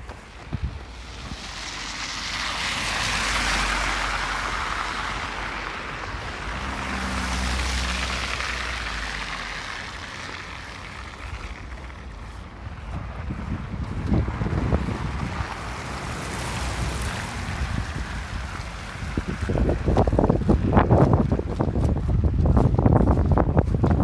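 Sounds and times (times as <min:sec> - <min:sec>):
low engine hum: 0:00.0 - 0:24.0
vehicles passing with tyre noise: 0:00.0 - 0:24.0.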